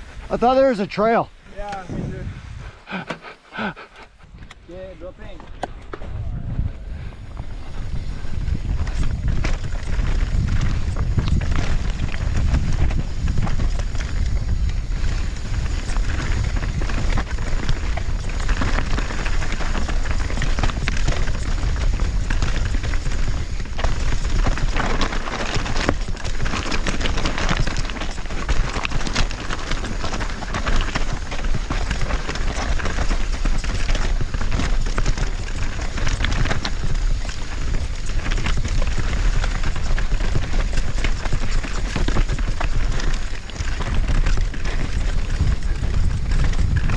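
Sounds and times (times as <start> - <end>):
tyres rushing over dirt and rock: 4.7 - 46.9.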